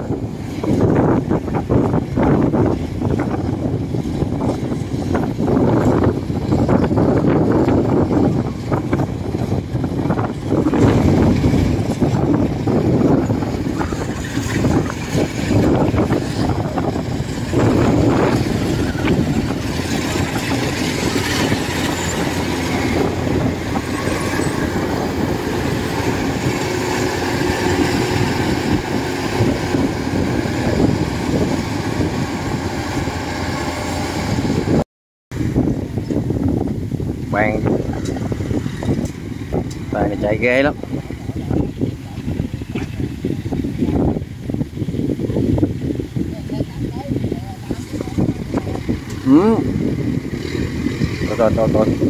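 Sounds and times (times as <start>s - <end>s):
combine harvester engine rumbling: 0.0s - 52.0s.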